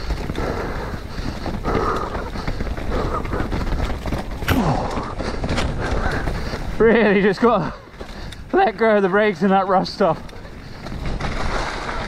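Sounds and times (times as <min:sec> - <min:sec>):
bike rattling and clattering: 0:00.0 - 0:12.0
bike tyres rolling over stones: 0:00.0 - 0:12.0.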